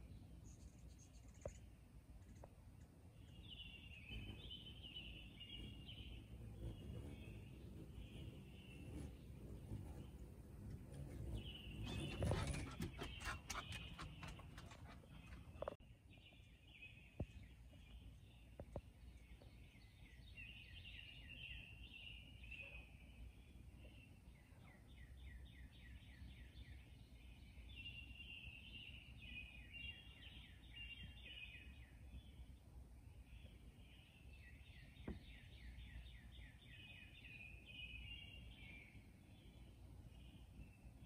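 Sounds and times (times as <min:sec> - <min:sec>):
faint songbird song: 0:00.0 - 0:41.0.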